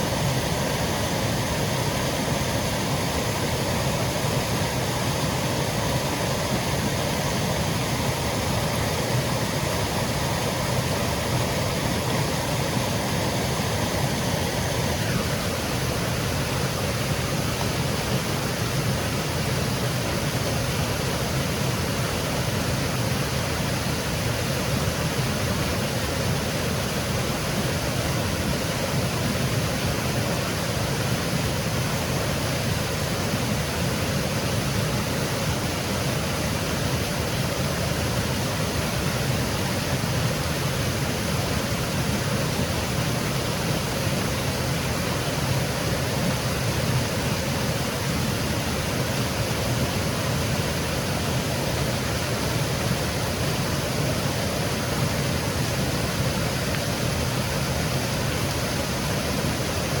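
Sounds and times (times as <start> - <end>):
faint high hum: 0.0 - 60.0
water cascading: 0.0 - 60.0.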